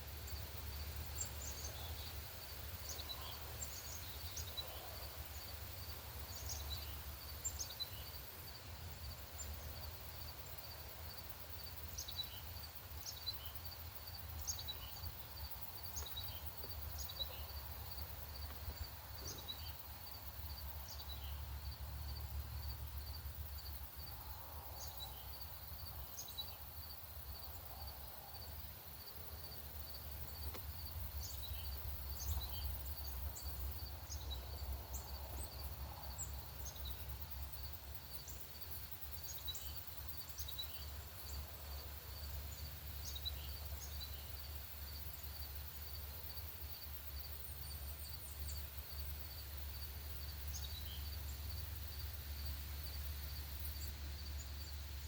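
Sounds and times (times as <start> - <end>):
songbirds chipping: 0.0 - 55.0.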